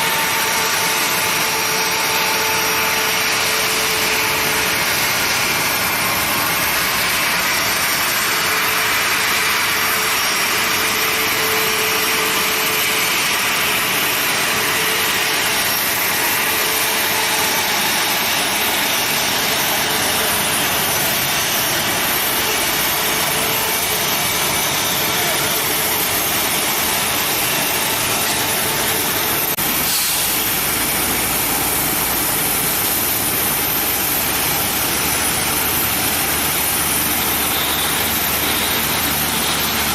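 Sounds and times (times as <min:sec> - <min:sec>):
high-pitched engine whine: 0:00.0 - 0:39.9
jet engines rushing: 0:00.0 - 0:39.9.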